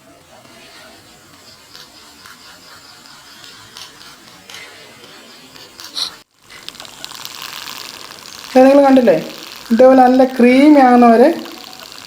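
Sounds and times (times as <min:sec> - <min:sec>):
electric egg beater whisking: 0:00.0 - 0:12.0.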